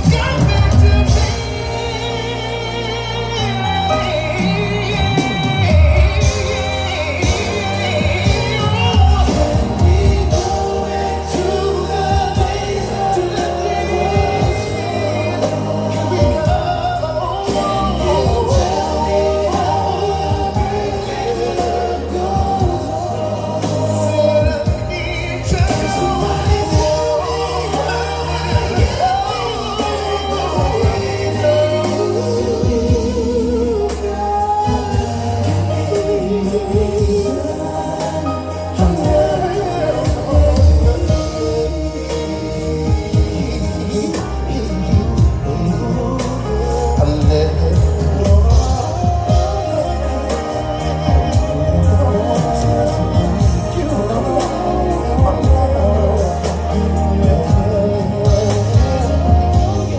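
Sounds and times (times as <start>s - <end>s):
band playing with steady bass: 0.0s - 59.9s
people singing long vocal lines: 0.0s - 59.9s.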